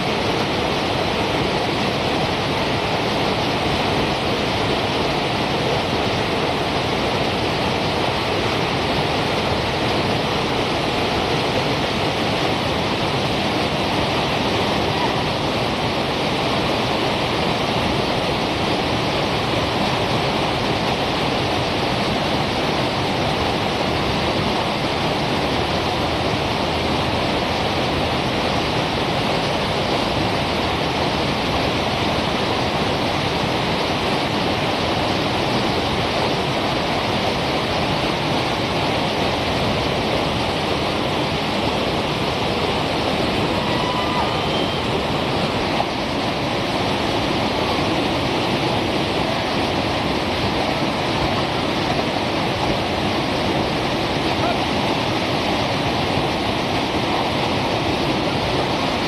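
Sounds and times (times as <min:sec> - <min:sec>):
river whitewater rushing: 0:00.0 - 0:59.0.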